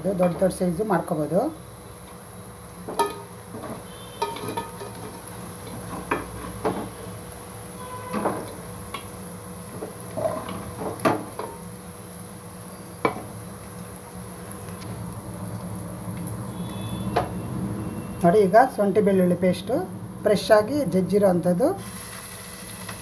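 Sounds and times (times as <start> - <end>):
frying oil sizzling: 0.0 - 23.0.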